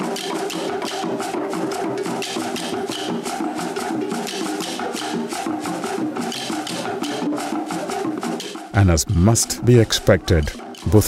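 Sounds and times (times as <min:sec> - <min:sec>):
background music with percussive beat: 0:00.0 - 0:11.0.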